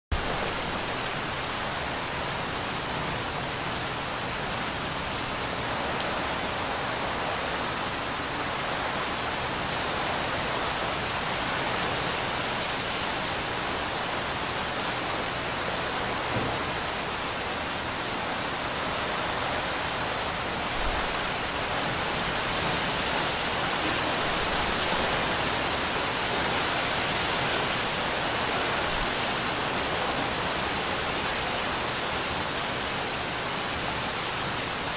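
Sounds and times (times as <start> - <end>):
rain falling on a pool: 0.1 - 34.9.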